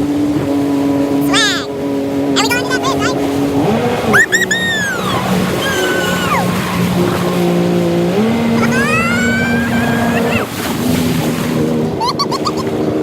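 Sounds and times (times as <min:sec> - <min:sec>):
jet ski engine revving: 0:00.0 - 0:13.0
high engine whine: 0:01.6 - 0:12.0.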